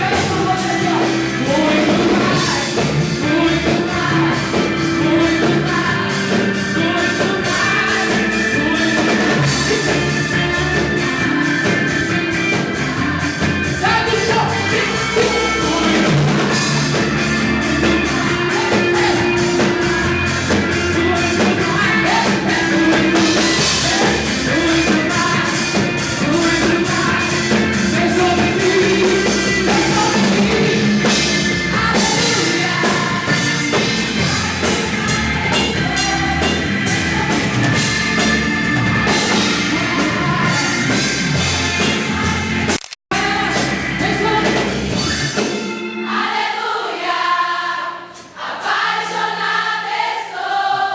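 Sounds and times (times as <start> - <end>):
band playing rock praise music: 0.0 - 50.9.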